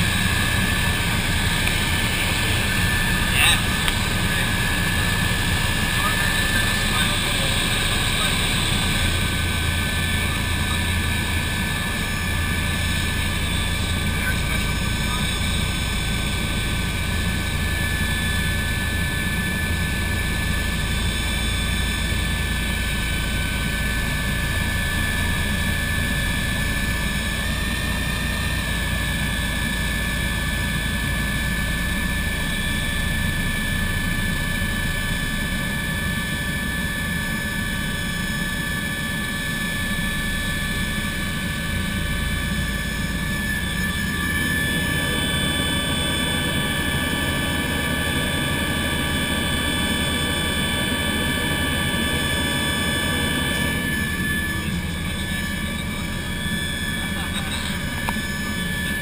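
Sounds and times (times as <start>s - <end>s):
helicopter turbine and rotor: 0.0s - 59.0s.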